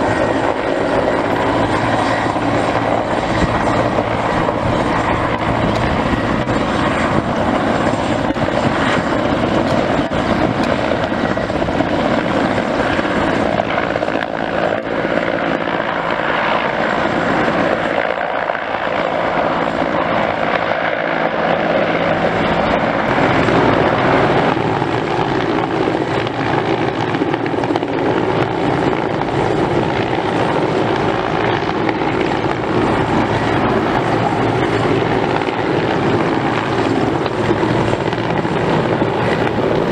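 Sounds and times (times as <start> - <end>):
helicopter rotor beating: 0.0 - 39.9
turboshaft engines running: 0.0 - 39.9.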